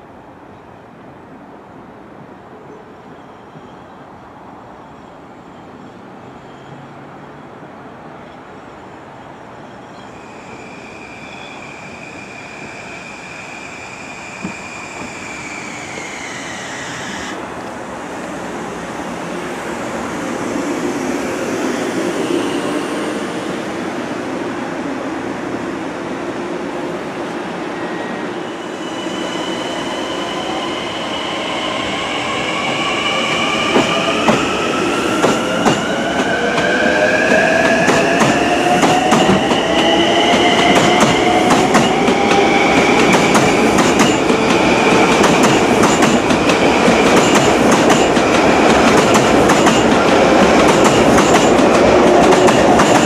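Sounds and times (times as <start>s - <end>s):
train running past: 2.2s - 53.0s
train whine: 8.8s - 53.0s.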